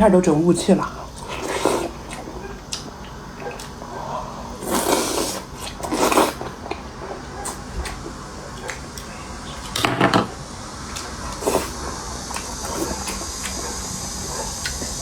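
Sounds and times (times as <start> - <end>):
person chewing food: 1.0 - 15.0.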